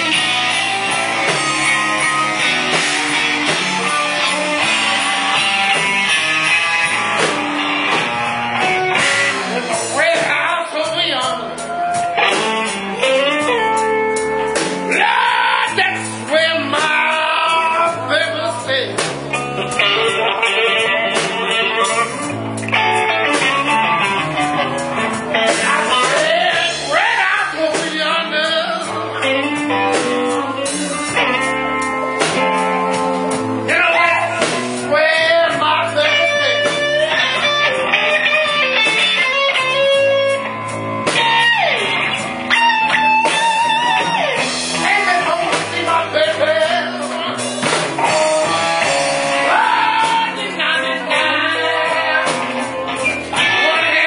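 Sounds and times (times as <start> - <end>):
drums: 0.0 - 54.0
electric guitar: 0.0 - 54.0.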